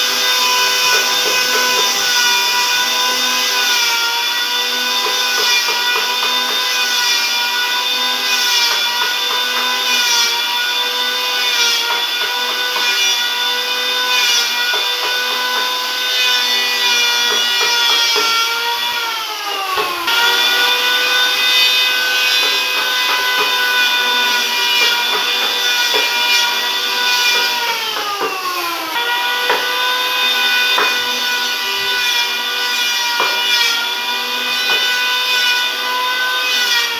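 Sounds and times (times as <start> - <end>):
power tool cutting wood: 0.0 - 36.9.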